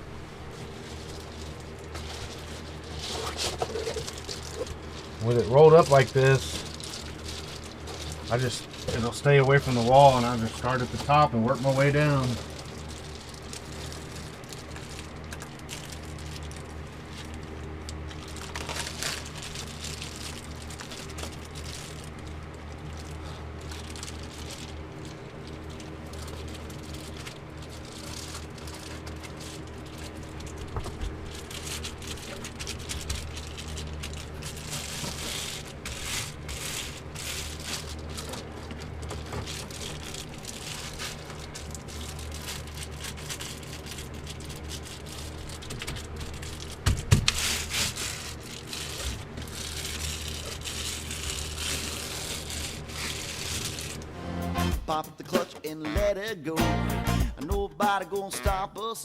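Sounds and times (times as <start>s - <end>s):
foil insulation crinkling: 0.0s - 54.2s
steady low hum: 0.0s - 58.7s.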